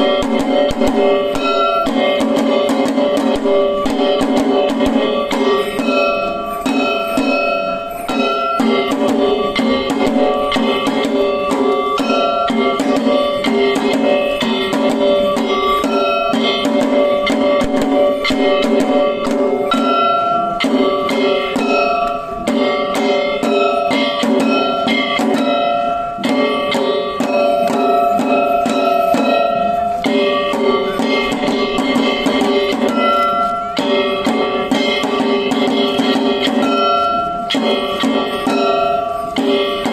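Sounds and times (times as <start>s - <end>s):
drums in fast rhythm: 0.0s - 39.9s.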